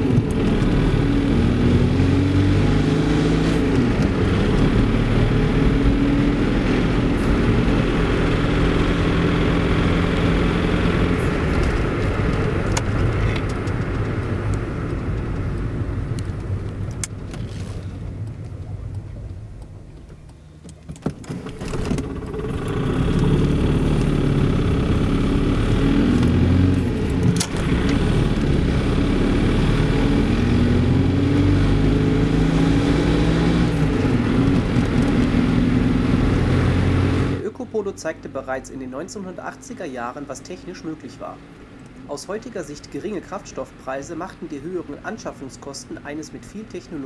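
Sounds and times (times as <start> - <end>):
diesel engine starting and running: 0.0 - 47.0
road and tyre noise: 0.0 - 47.0.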